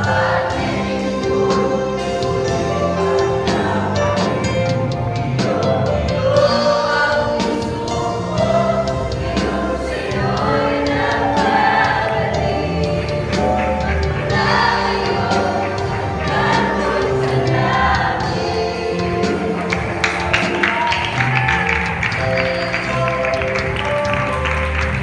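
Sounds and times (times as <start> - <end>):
musical accompaniment: 0.0 - 25.0
youth choir singing gospel: 0.0 - 25.0.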